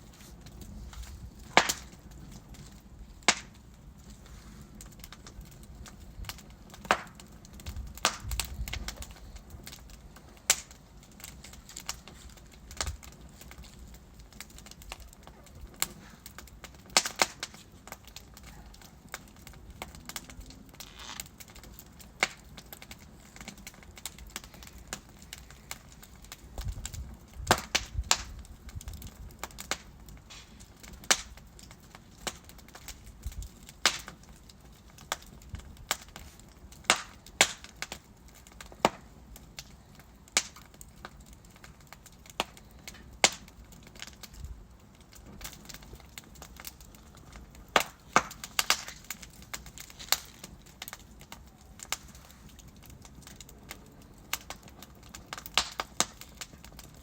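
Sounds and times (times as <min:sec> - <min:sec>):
flames hissing and rumbling: 0:00.0 - 0:57.0
logs crackling in fireplace: 0:00.0 - 0:57.0.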